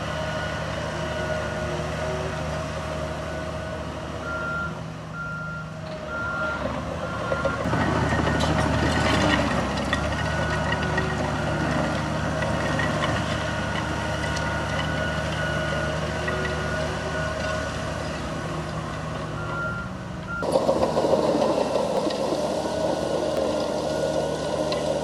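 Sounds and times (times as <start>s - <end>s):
heavy machinery diesel engine: 0.0s - 25.0s.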